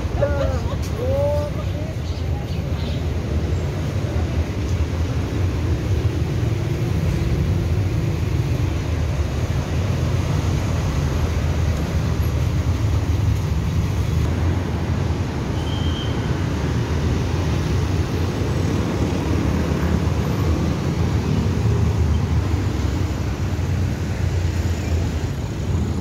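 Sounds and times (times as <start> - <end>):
city road traffic rumble: 0.0 - 26.0.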